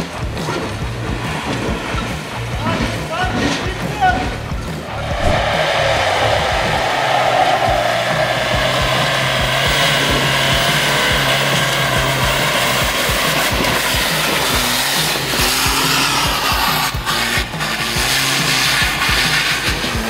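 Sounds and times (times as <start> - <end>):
background music with steady beat: 0.0 - 20.0
pickup engines hissing: 0.0 - 20.0.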